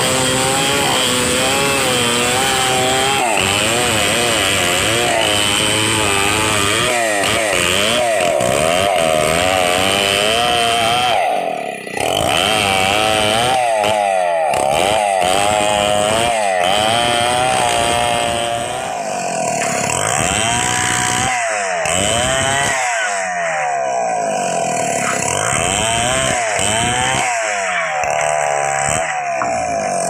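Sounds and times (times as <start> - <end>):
chainsaw cutting through log: 0.0 - 30.0.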